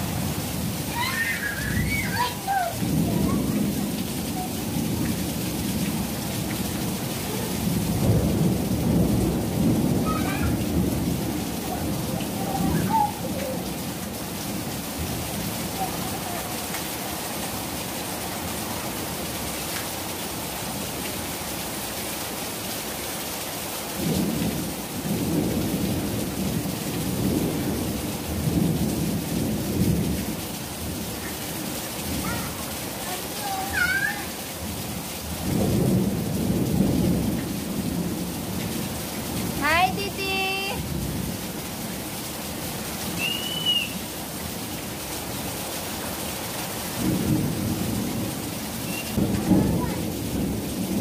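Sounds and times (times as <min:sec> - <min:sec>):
heavy rain on pavement: 0:00.0 - 0:51.0.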